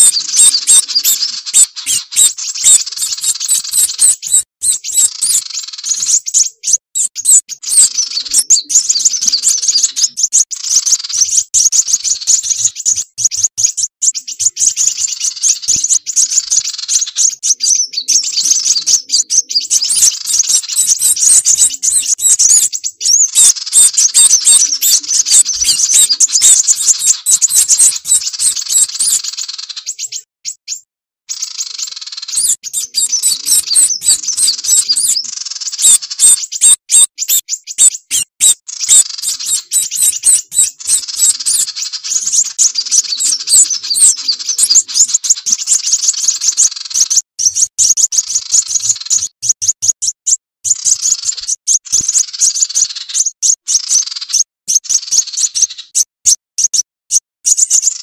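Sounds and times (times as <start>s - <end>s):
high-pitched bird chipping and trilling: 0.0s - 58.0s.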